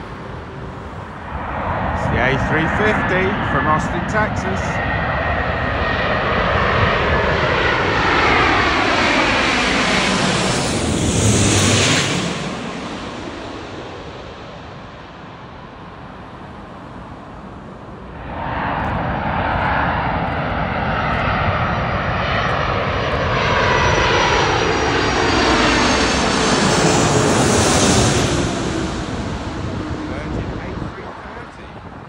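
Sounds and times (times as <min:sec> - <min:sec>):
jet airliner passing overhead: 0:00.0 - 0:32.0
jet engines whining: 0:00.0 - 0:32.0.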